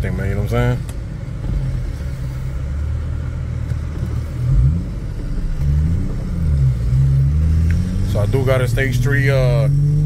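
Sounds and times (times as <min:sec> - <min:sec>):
car engine from inside car: 0:00.0 - 0:10.0.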